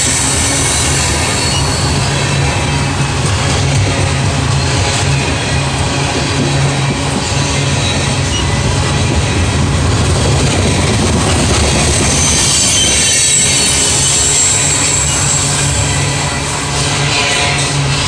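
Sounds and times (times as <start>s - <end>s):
high wheel squeal: 0.0s - 9.2s, 10.7s - 18.0s
train wheels rumbling on rail: 0.0s - 18.0s.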